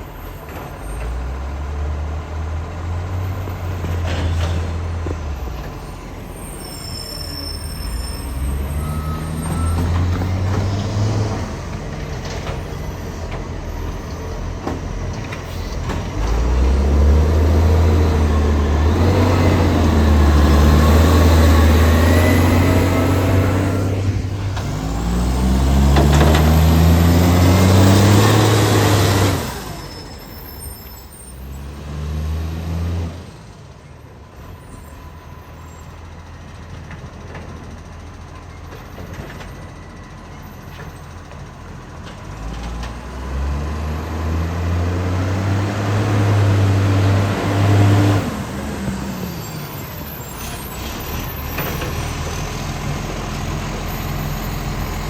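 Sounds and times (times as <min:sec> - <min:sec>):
diesel truck engine revving: 0:01.0 - 0:33.6, 0:41.8 - 0:55.0.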